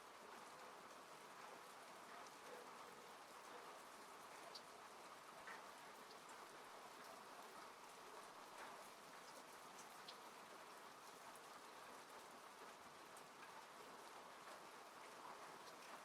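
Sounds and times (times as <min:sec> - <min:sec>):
rain falling on a car: 0:00.0 - 0:16.0.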